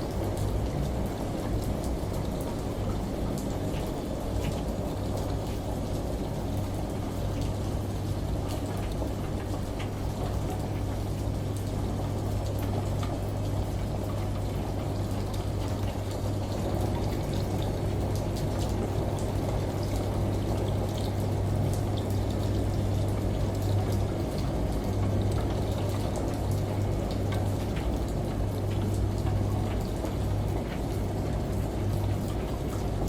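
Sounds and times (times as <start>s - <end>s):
washing machine humming: 0.0s - 33.0s.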